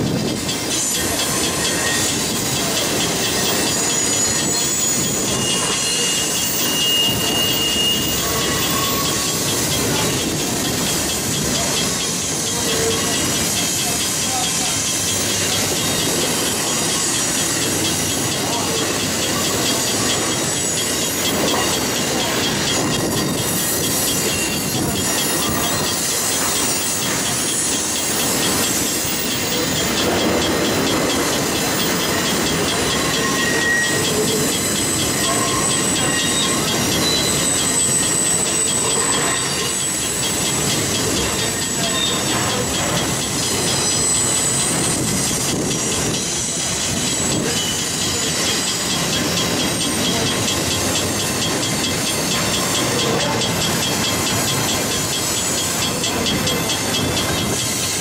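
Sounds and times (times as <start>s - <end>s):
freight train wheels rumbling: 0.0s - 58.0s
wheels squealing: 0.0s - 58.0s.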